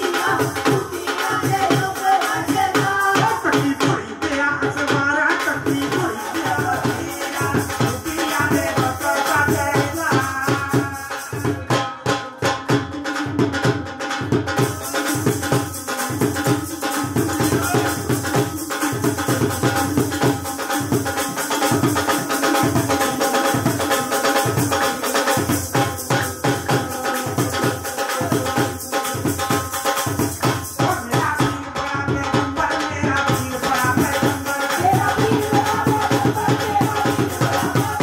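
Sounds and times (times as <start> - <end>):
fast drum beat: 0.0 - 38.0.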